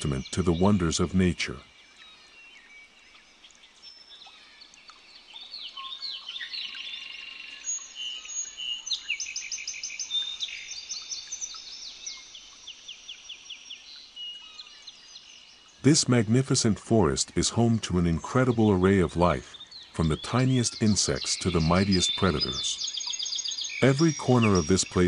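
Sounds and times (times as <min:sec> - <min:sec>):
birds chirping and trilling: 0:00.0 - 0:25.0.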